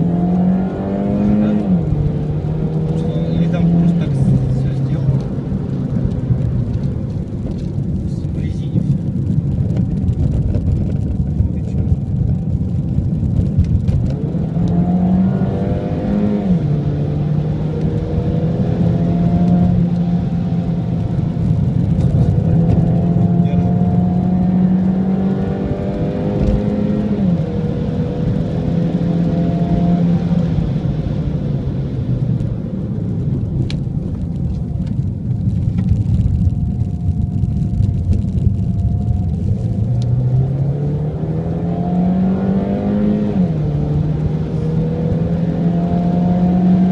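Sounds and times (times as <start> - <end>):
car engine accelerating and shifting: 0.0 - 46.9.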